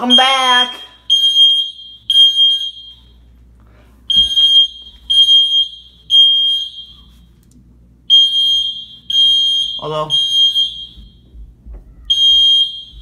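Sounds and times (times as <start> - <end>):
fire alarm beeping: 0.0 - 3.3, 4.1 - 7.4, 8.1 - 11.4, 12.1 - 13.0.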